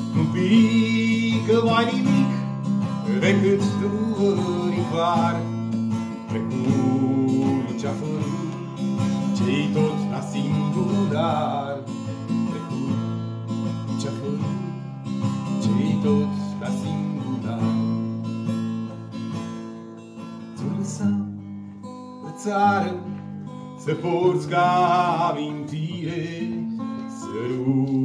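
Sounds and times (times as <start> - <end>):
acoustic guitar strummed and picked: 0.0 - 28.0.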